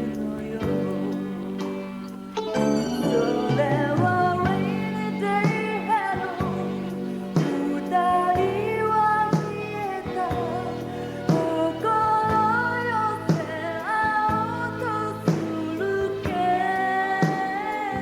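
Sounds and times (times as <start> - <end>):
woman singing: 0.0 - 1.7, 3.0 - 18.0
live pop band: 0.0 - 18.0.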